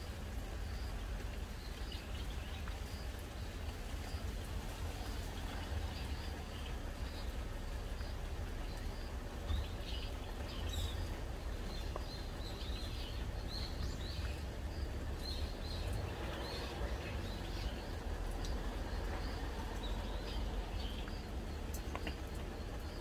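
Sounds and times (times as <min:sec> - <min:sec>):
light rain hissing: 0:00.0 - 0:23.0.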